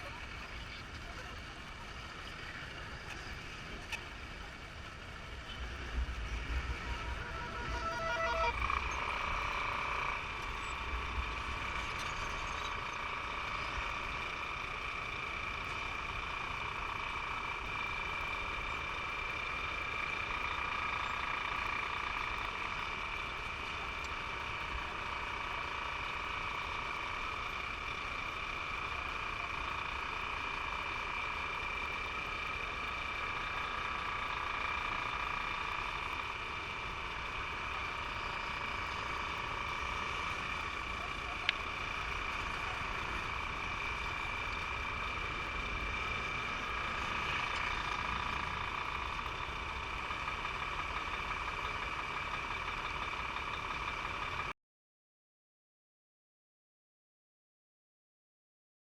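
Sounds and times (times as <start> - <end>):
high whine: 0.0 - 54.1
motorcycle engine rumble: 0.0 - 54.5.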